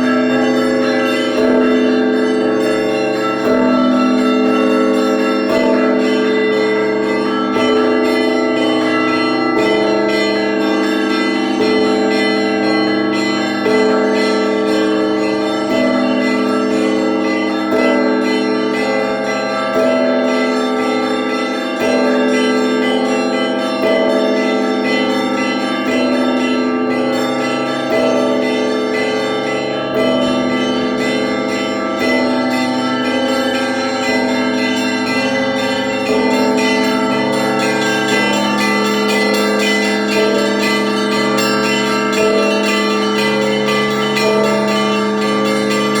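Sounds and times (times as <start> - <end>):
deep church bell struck: 0.0 - 46.0
smaller bells ringing rhythmically: 0.0 - 46.0.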